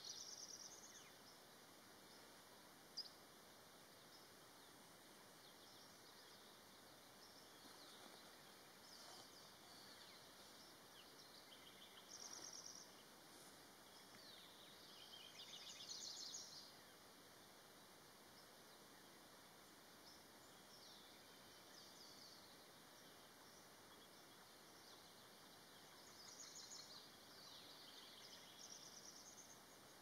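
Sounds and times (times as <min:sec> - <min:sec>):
faint birdsong chirps and trills: 0:00.0 - 0:30.0.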